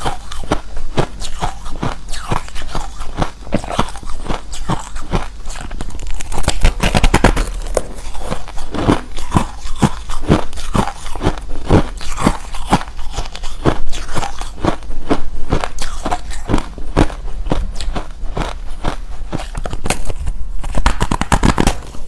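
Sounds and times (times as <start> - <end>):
chewing crushed ice: 0.0 - 22.0.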